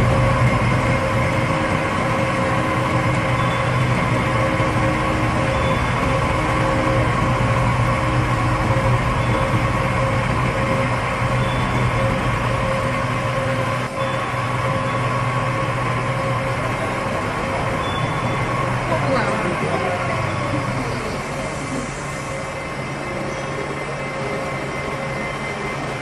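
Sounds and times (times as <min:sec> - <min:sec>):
machine hum: 0:00.0 - 0:26.0.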